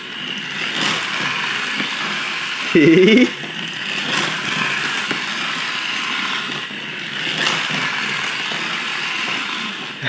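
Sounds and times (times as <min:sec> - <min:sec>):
toy car electric motor whirring: 0:00.0 - 0:10.0.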